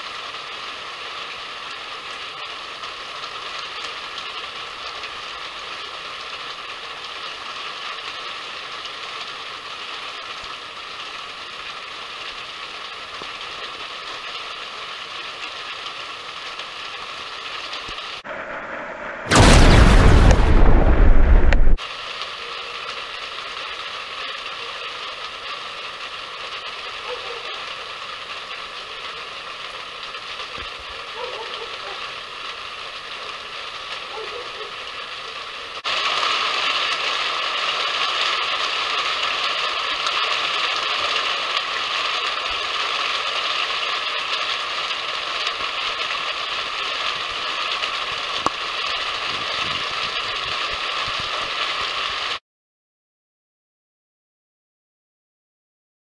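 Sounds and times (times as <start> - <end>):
steady hiss: 0.0 - 52.4.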